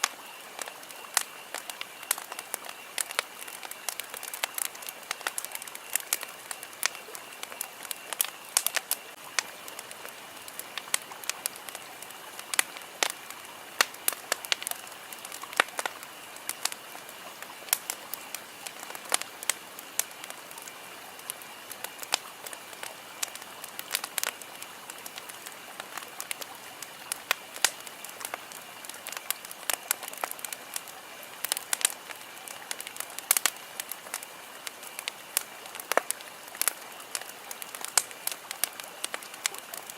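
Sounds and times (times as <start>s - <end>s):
campfire crackling: 0.0s - 39.9s
steady hiss: 0.0s - 39.9s.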